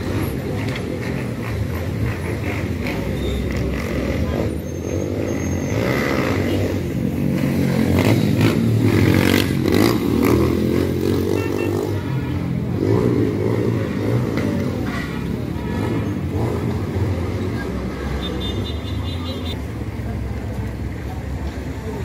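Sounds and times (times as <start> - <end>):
car engines running: 0.0 - 18.5.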